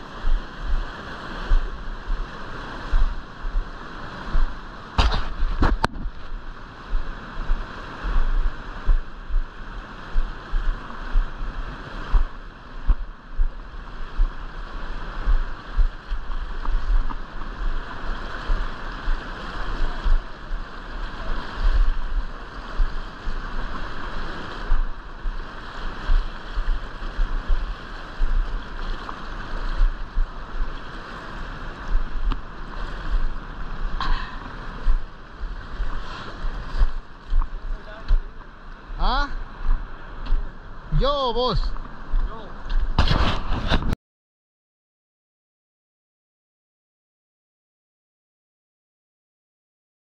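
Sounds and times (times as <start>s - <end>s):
river rapids rushing: 0.0s - 43.3s
wind buffeting microphone: 0.0s - 44.0s.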